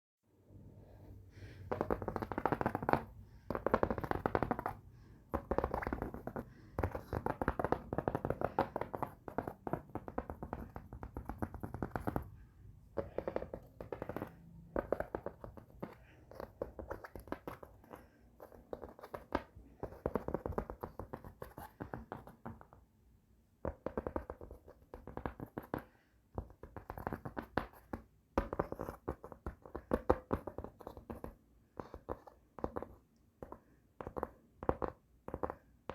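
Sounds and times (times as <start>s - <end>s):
fast tapping on a cupboard: 1.7s - 12.3s, 13.0s - 22.8s, 23.6s - 35.9s.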